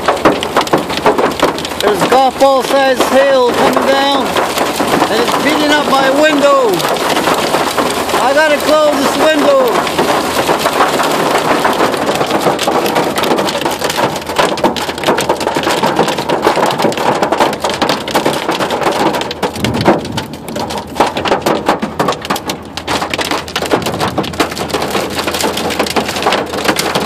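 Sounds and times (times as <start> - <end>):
hail and heavy rain on a truck: 0.0 - 27.0.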